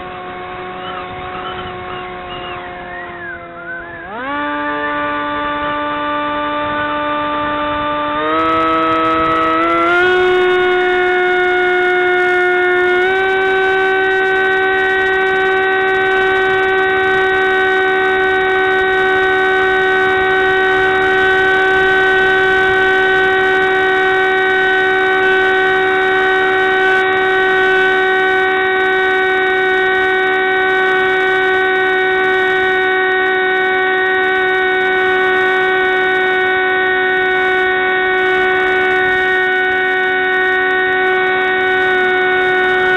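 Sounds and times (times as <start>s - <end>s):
model plane motor whine: 0.0s - 42.9s.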